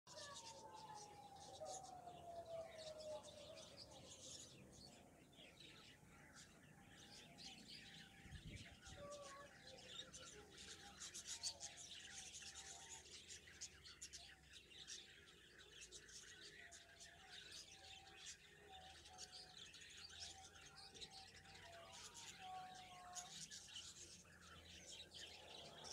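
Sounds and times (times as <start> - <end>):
finches chirping and twittering: 0.1 - 25.9.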